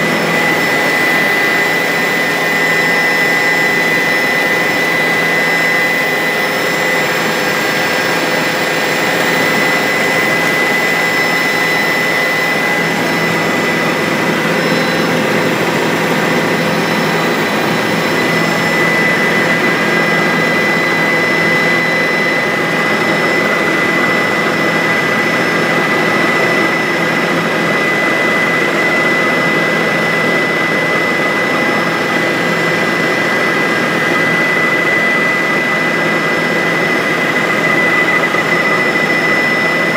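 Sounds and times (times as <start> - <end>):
helicopter engine whine: 0.0 - 39.9
helicopter rotor noise: 0.0 - 39.9.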